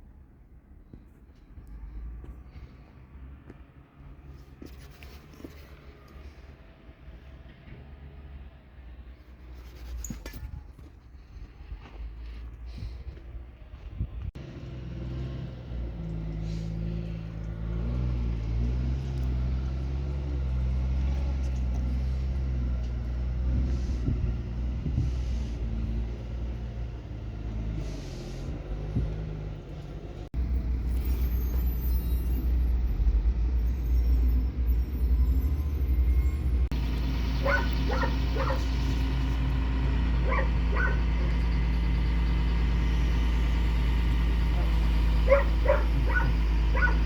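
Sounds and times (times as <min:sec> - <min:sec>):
diesel engine low rumble: 0:00.0 - 0:47.0.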